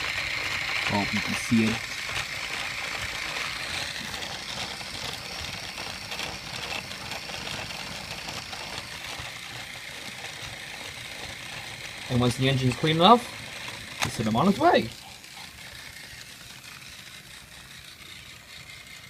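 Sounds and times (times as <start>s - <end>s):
toy train motor whirring: 0.0s - 19.0s.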